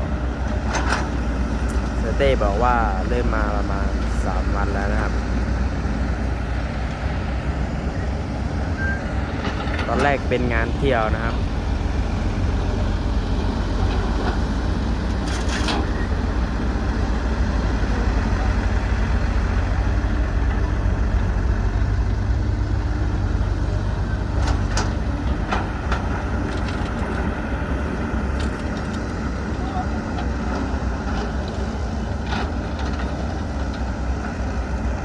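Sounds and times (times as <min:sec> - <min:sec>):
diesel engine rumbling: 0:00.0 - 0:35.0.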